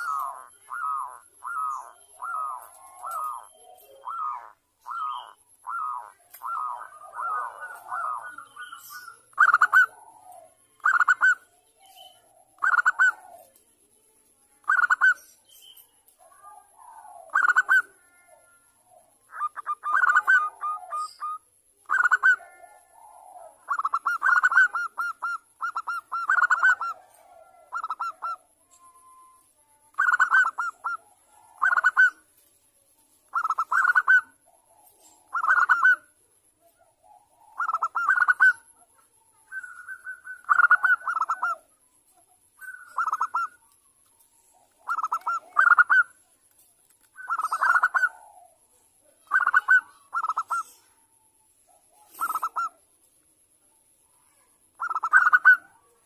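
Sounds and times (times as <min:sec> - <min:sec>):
dove cooing: 0:00.0 - 0:13.6, 0:16.2 - 0:32.4, 0:33.2 - 0:46.3, 0:47.1 - 0:51.0, 0:51.7 - 0:52.8, 0:54.3 - 0:56.0.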